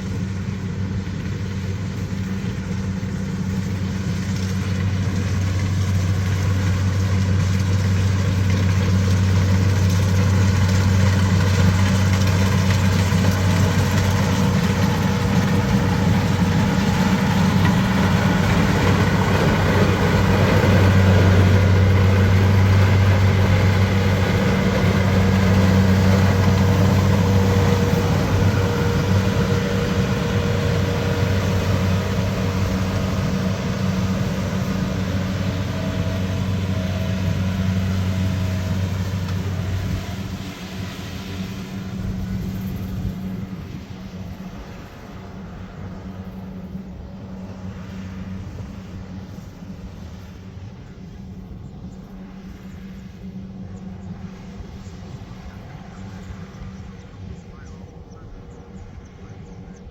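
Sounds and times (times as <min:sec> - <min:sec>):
heavy machinery engine running: 0:00.0 - 0:59.9.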